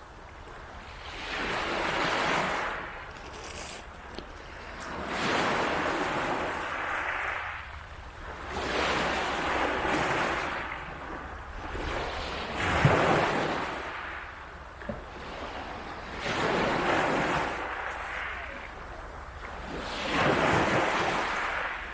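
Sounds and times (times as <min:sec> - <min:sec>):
waves washing onto beach: 0:00.0 - 0:21.9.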